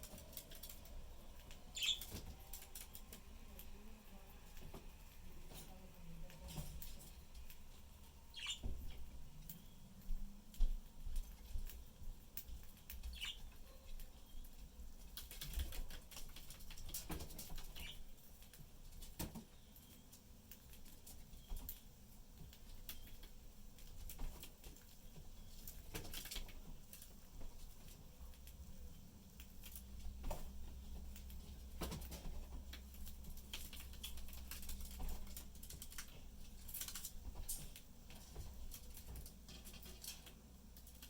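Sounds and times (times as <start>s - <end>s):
birds pecking at food: 0.0s - 41.0s.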